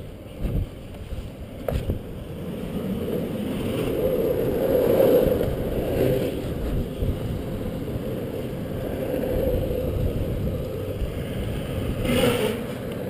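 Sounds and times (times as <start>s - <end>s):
longboard wheels rolling on concrete: 0.0s - 13.0s.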